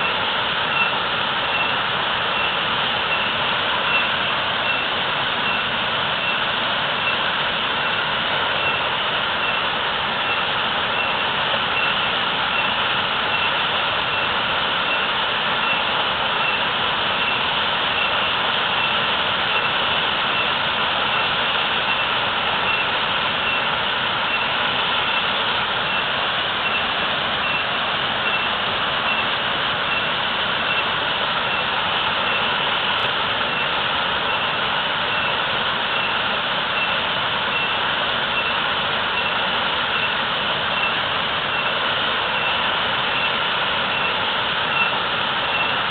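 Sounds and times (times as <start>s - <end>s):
waterfall pouring: 0.0s - 45.9s.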